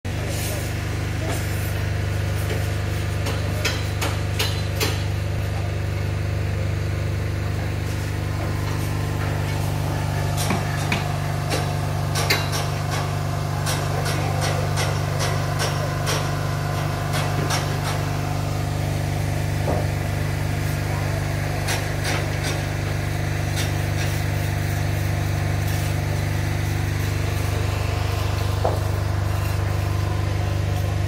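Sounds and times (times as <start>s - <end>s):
low engine drone: 4.8s - 31.0s.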